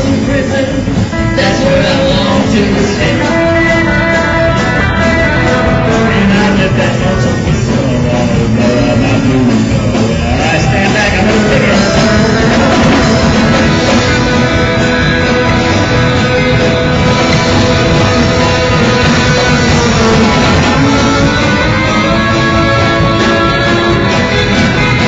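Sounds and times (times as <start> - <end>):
rock and roll music with guitar: 0.0 - 25.0.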